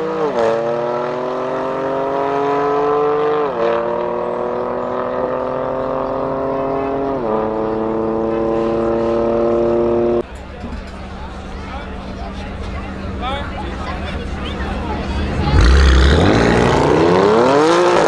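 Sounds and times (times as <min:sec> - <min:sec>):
car engine accelerating hard: 0:00.0 - 0:10.2, 0:11.2 - 0:18.0
second car engine: 0:00.0 - 0:18.0.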